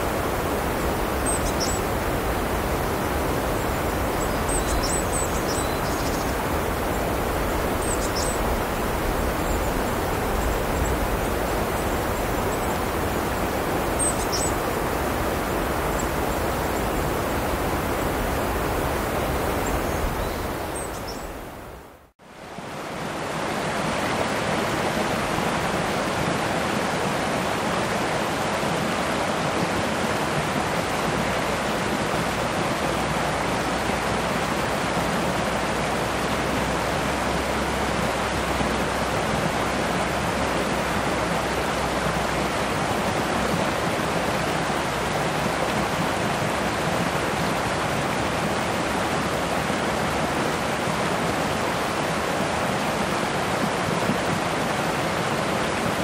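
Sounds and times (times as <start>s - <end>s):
mountain stream flowing: 0.0s - 56.0s.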